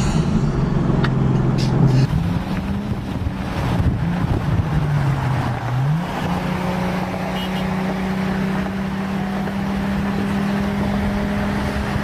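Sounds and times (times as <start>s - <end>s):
car engine droning: 0.0s - 12.0s
road and wind noise: 0.0s - 12.0s.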